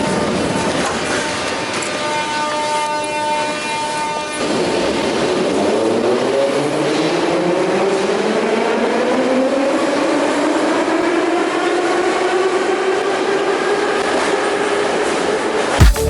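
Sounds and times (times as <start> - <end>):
train traction motors whining: 0.0 - 15.8.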